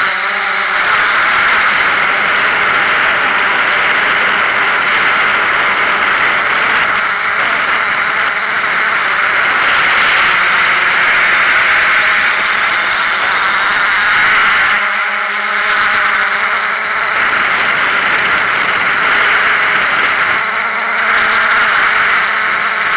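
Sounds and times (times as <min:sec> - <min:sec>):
drone propellers whirring: 0:00.0 - 0:22.9.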